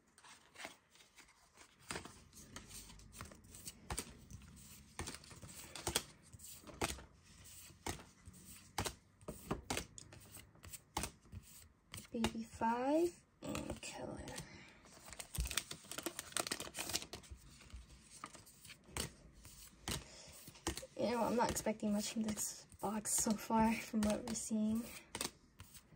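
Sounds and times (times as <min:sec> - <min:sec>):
cards flipped by hand: 0:00.3 - 0:12.1, 0:15.0 - 0:22.4, 0:23.1 - 0:25.8.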